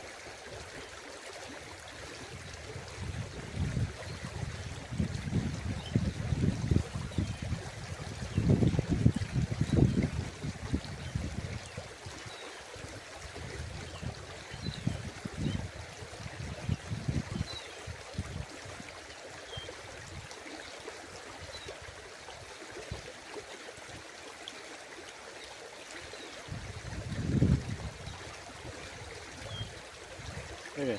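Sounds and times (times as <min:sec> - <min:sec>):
water running in a stream: 0:00.0 - 0:30.9.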